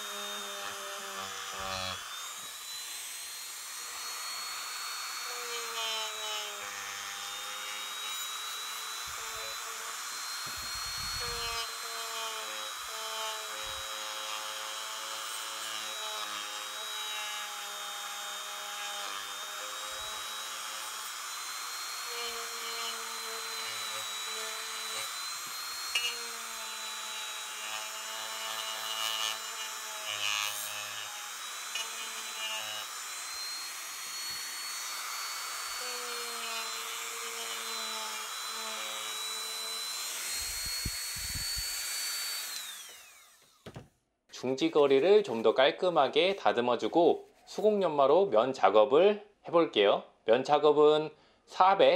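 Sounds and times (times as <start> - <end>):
rotary tool motor whine: 0.0 - 43.8.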